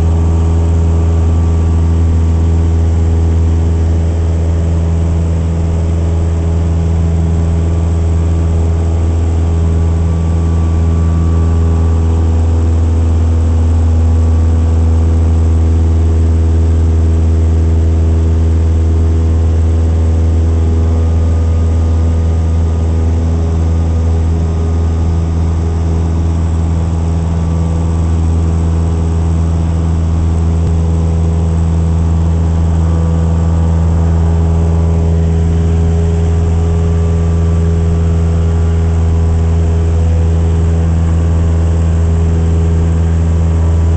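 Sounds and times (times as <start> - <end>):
propeller aircraft engine in cabin: 0.0 - 43.9.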